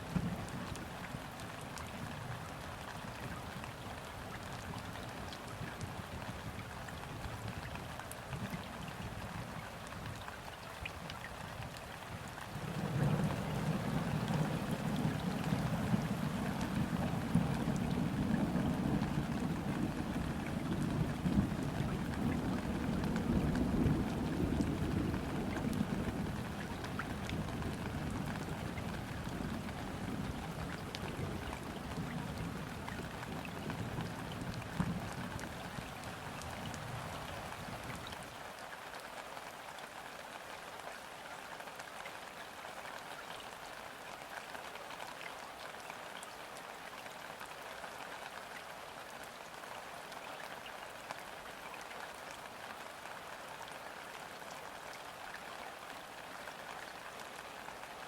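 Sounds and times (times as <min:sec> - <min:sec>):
rain falling on river water: 0:00.0 - 0:58.0.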